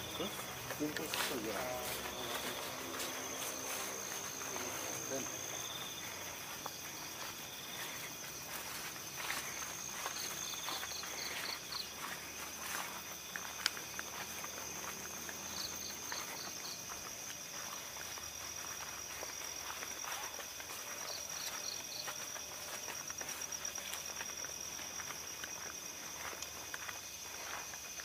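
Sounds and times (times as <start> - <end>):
footsteps rustling through undergrowth: 0.0 - 28.0
night insects trilling: 0.0 - 28.0.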